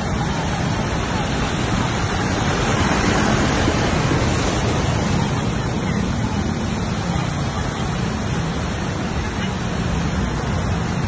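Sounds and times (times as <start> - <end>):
floodwater rushing and splashing: 0.0 - 11.0
vehicle engine noise: 0.0 - 11.0.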